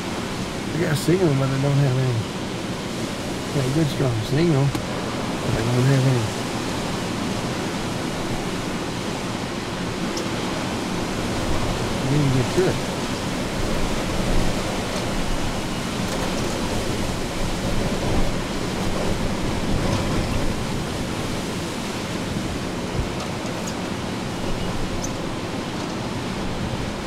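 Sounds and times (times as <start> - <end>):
strong wind and rain: 0.0 - 27.0.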